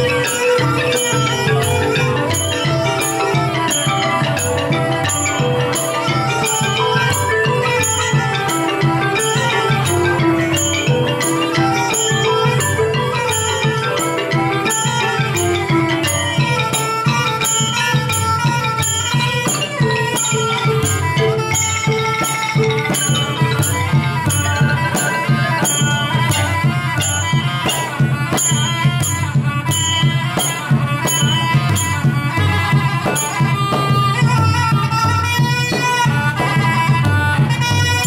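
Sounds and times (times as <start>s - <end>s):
barrel drum: 0.0s - 38.0s
nasal oboe: 0.0s - 38.0s
wooden xylophones: 0.0s - 38.0s.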